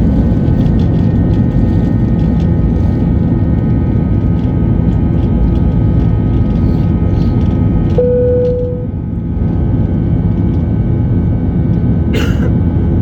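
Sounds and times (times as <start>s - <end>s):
airplane engines and airflow rumble: 0.0s - 13.0s.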